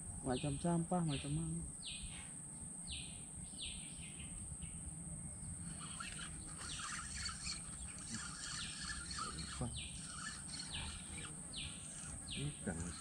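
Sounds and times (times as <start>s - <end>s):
birds twittering chirps: 0.1s - 13.0s.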